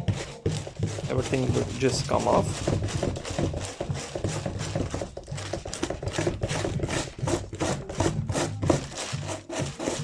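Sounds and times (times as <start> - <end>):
wire brush rasping on foam: 0.0 - 10.0.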